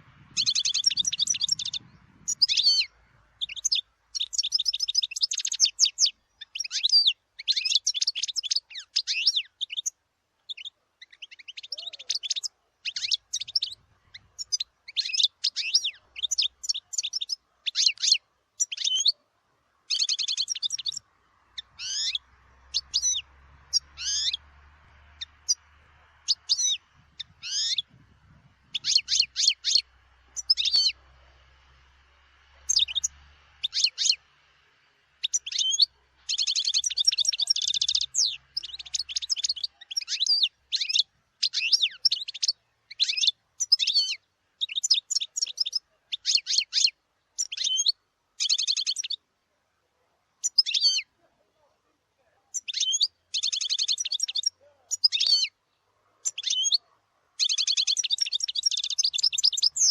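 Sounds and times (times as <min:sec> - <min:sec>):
goldfinch singing: 0:00.0 - 0:19.2, 0:19.9 - 0:34.3, 0:35.2 - 0:49.2, 0:50.4 - 0:51.2, 0:52.5 - 0:55.6, 0:56.2 - 0:59.9.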